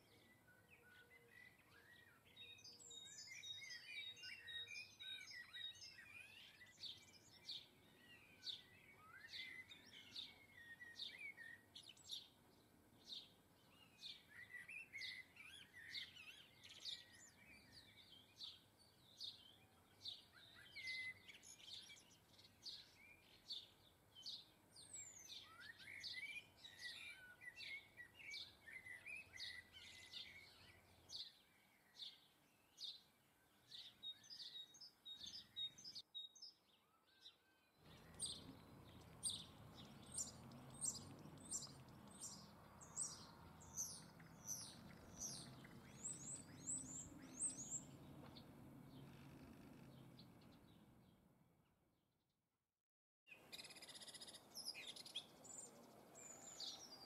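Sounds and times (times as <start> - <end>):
small birds chirping rapidly: 0.0 - 51.3, 53.3 - 57.0.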